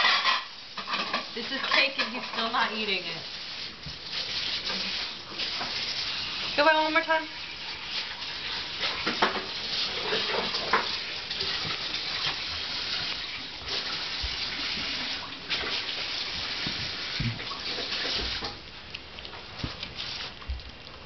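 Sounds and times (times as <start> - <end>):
dog licking and lapping food: 0.8 - 21.0.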